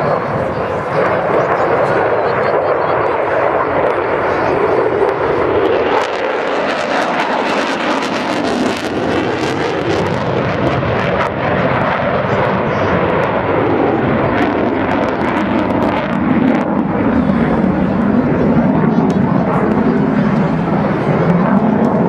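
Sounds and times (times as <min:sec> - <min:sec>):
fighter jet engine roaring: 0:00.0 - 0:22.0.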